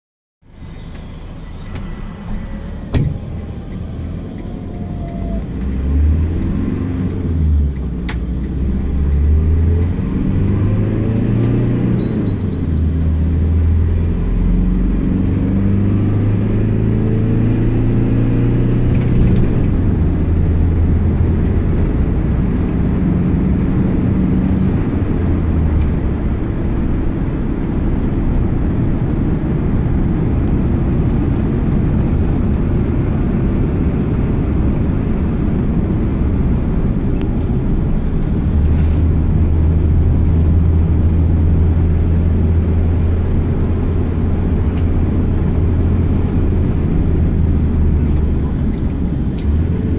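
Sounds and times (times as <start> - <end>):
diesel engine inside cabin: 0.4 - 49.9
road noise: 0.4 - 49.9.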